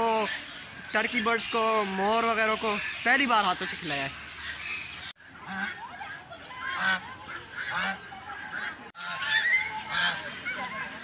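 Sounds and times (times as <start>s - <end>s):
fowl chattering: 0.0s - 11.0s
geese honking: 0.0s - 11.0s.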